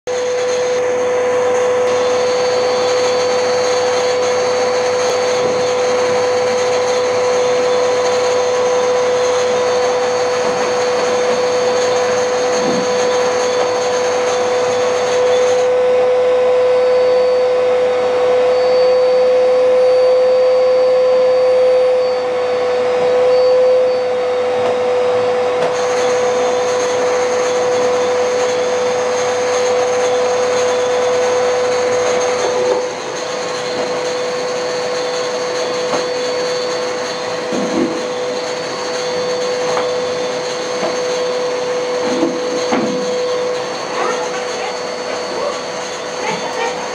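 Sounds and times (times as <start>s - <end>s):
electric motor humming: 0.1s - 46.9s.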